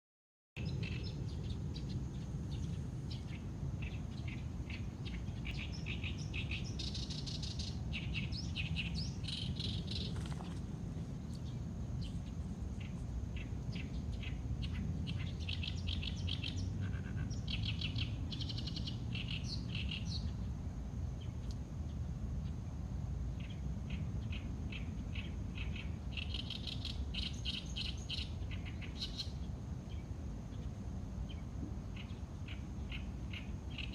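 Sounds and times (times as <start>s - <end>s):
small birds chirping: 0.6s - 22.6s, 23.3s - 33.9s
steady low rumble: 0.6s - 33.9s.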